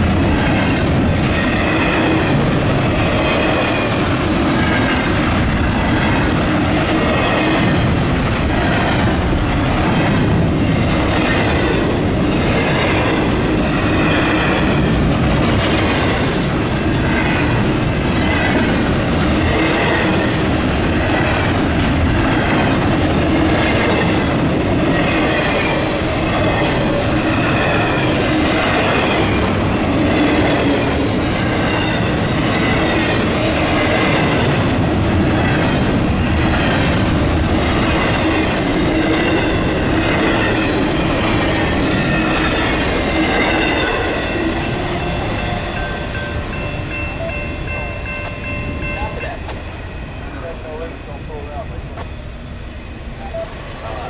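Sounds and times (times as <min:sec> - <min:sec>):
train wheels clattering on rails: 0:00.0 - 0:52.1.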